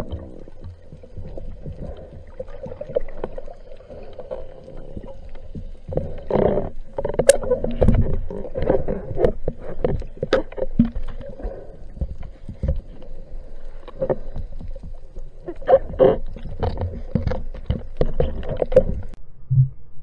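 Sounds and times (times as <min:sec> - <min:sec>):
underwater clicks and knocks: 0:00.0 - 0:19.7
low rumble of moving water: 0:00.0 - 0:20.0.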